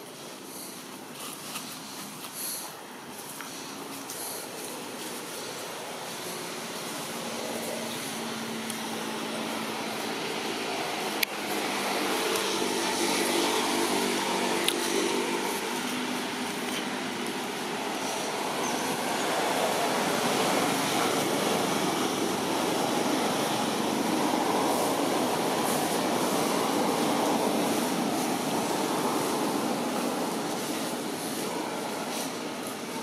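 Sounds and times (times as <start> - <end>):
rushing outdoor background noise: 0.0 - 33.0.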